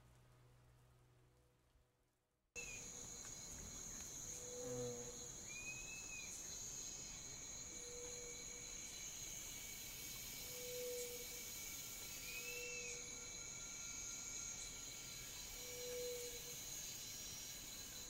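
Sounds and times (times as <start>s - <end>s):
crickets and insects chirping: 2.6s - 18.0s.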